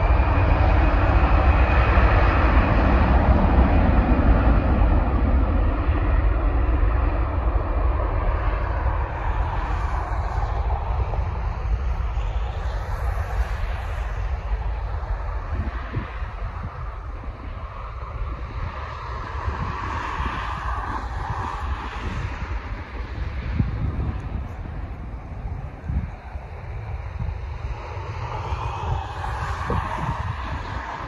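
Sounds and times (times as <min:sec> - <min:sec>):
jet engines roaring at takeoff: 0:00.0 - 0:31.0.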